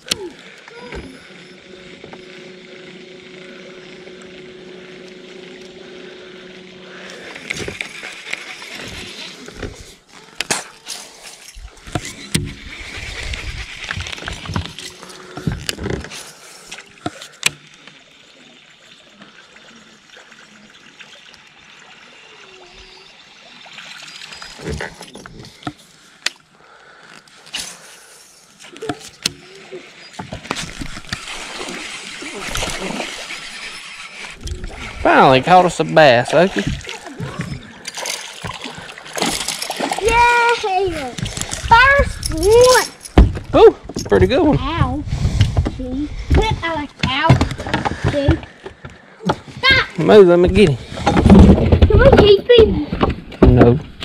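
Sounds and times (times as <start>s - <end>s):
electric trolling motor hum: 0.0s - 51.4s.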